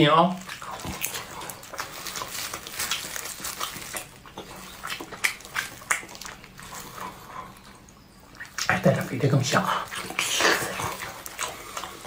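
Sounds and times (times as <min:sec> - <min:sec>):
wet chewing and lip smacking: 0:00.3 - 0:12.0.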